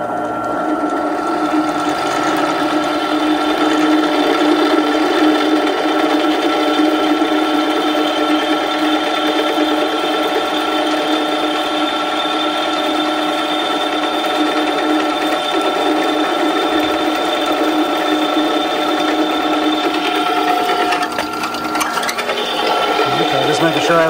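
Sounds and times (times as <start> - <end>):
drill press motor whine: 0.0 - 24.0.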